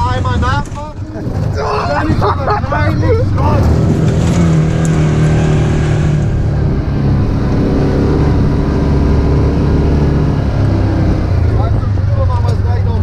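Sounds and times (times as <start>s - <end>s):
tyres rolling on pavement: 0.0s - 13.0s
vehicle engine running: 0.0s - 13.0s.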